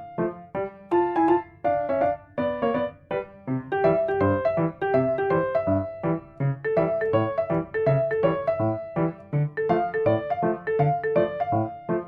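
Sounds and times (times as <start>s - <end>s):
lively piano or keyboard music: 0.0s - 12.0s.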